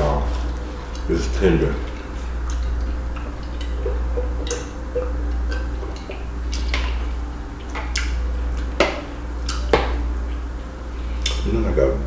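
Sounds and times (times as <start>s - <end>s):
steady low hum: 0.0s - 12.0s
drinking and chewing mouth sounds: 0.2s - 11.5s.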